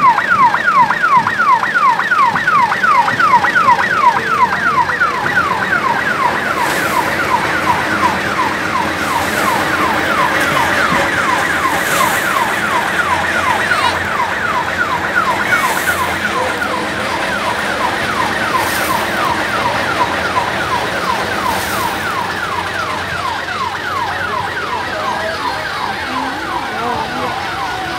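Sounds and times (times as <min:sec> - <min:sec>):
electronic vehicle siren: 0:00.0 - 0:27.9.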